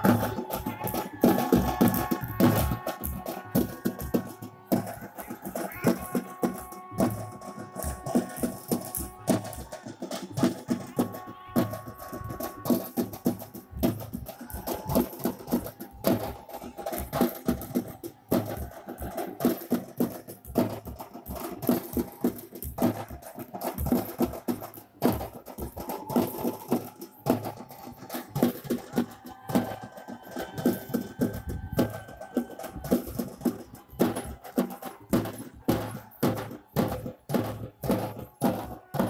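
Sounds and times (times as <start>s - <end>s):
fast loud drumming: 0.0s - 39.0s.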